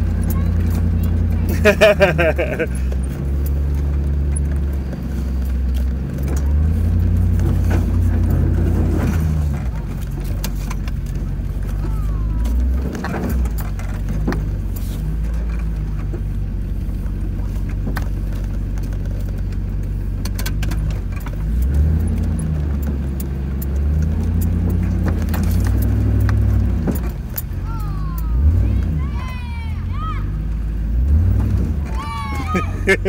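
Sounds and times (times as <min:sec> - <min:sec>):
truck clicks and rattles: 0:00.0 - 0:33.0
truck engine pulling under load: 0:00.0 - 0:33.0.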